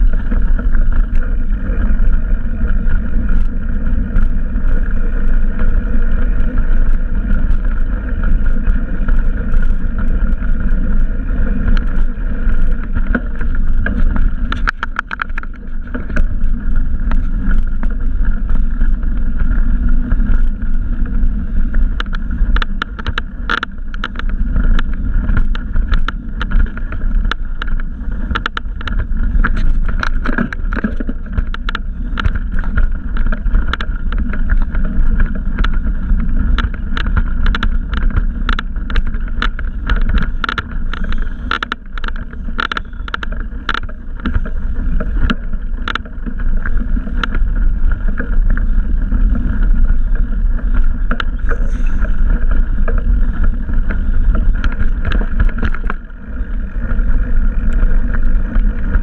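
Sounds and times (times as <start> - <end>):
bike clicking and knocking: 0.0 - 59.0
wind rumble: 0.0 - 59.0.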